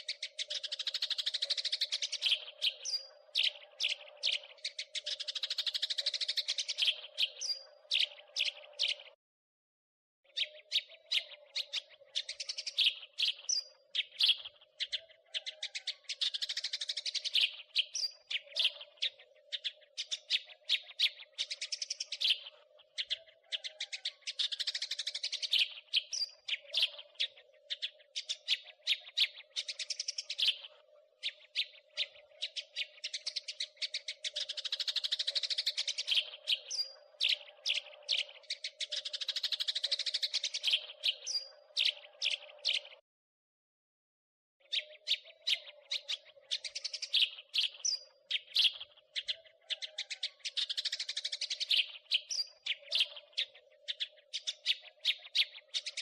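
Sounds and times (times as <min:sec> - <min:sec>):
sparrows chirping: 0:00.0 - 0:09.2, 0:10.2 - 0:43.0, 0:44.6 - 0:56.0.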